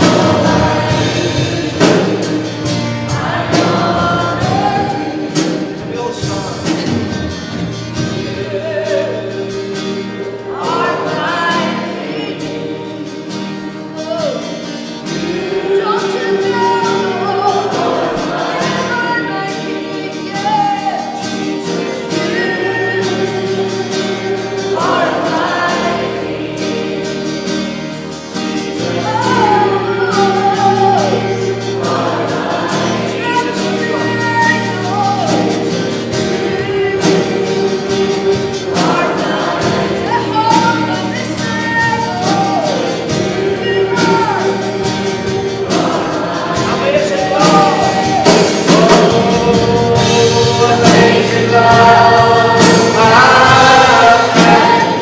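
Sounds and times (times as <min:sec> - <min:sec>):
band playing worship music: 0:00.0 - 0:55.0
voices singing together: 0:00.0 - 0:55.0.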